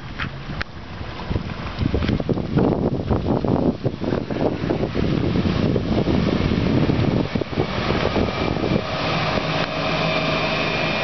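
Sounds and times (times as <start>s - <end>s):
boat engine running low: 0.0s - 11.0s
wind buffeting microphone: 0.0s - 11.0s.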